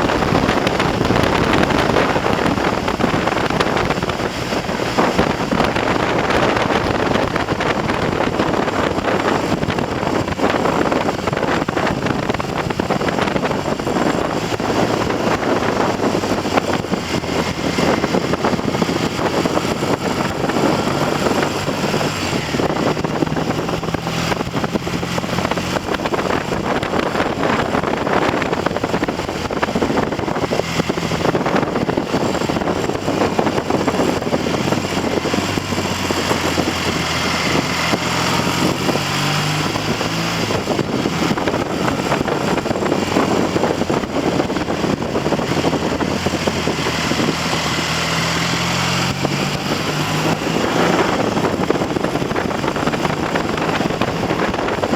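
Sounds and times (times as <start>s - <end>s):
motorcycle engine: 0.0s - 54.9s
wind noise on microphone: 0.0s - 54.9s.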